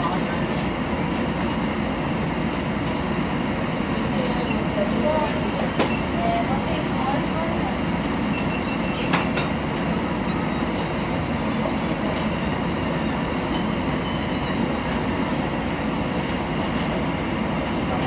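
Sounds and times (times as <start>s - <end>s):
streetcar low rumble: 0.0s - 18.0s.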